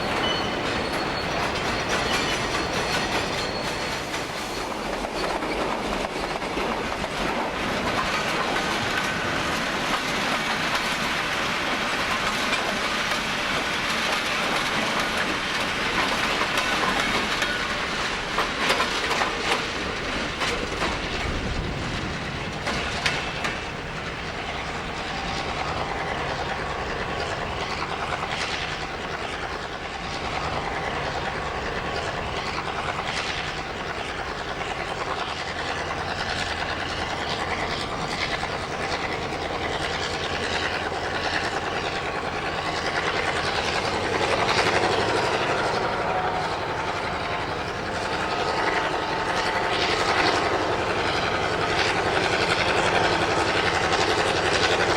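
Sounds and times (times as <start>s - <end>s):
train rolling past: 0.0s - 54.9s
wheels clicking over rail joints: 0.0s - 54.9s.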